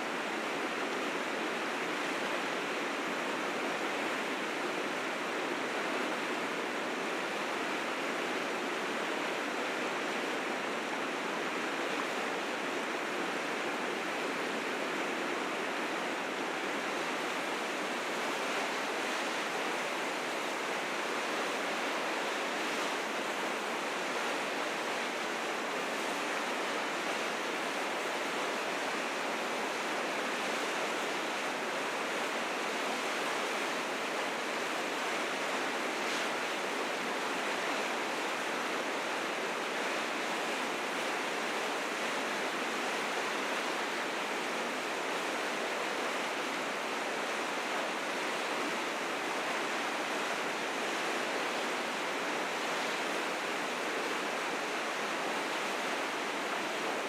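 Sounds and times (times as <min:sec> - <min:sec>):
river rapids rushing over rocks: 0:00.0 - 0:57.0.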